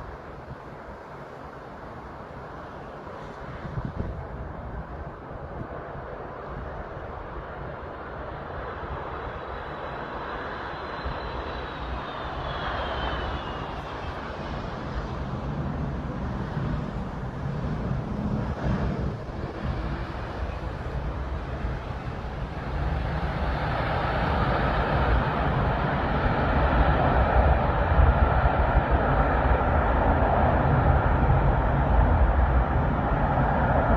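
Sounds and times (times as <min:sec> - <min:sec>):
high engine whine: 0:00.0 - 0:33.9
jet engines roaring: 0:00.0 - 0:33.9.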